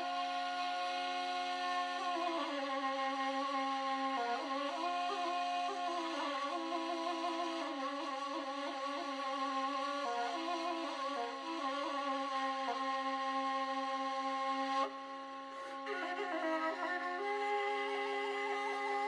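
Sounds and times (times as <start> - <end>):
wind instrument folk melody: 0.0 - 13.8, 14.7 - 19.0.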